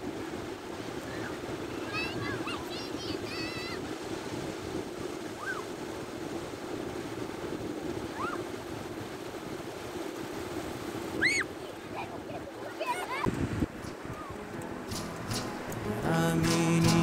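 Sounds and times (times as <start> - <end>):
surf breaking on a beach: 0.0 - 17.0.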